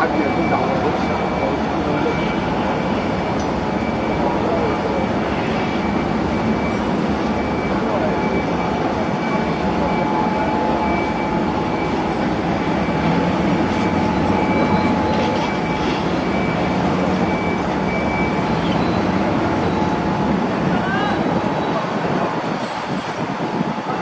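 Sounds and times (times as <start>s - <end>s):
faint high beep: 0.0s - 6.8s, 7.4s - 20.1s, 21.2s - 21.8s
boat engine drone: 0.0s - 24.0s
high whine: 1.8s - 22.4s.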